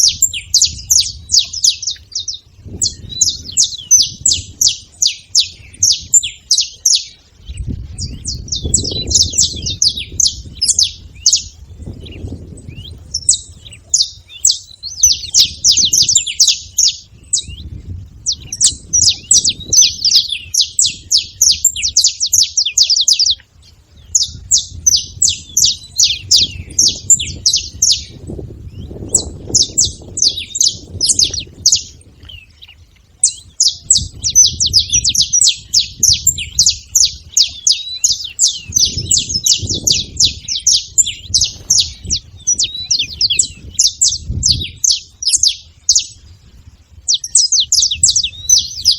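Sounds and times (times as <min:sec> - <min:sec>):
finches chirping: 0:00.0 - 0:48.9.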